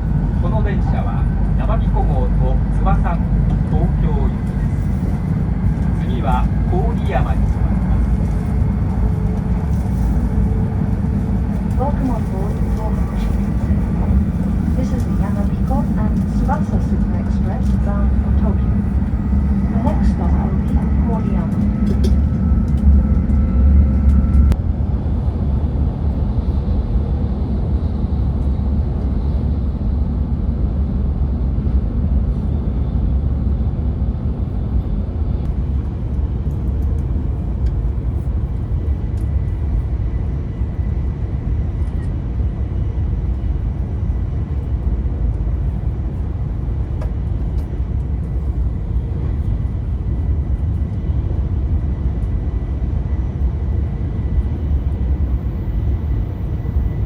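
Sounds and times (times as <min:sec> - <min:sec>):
train running at speed: 0:00.0 - 0:57.0.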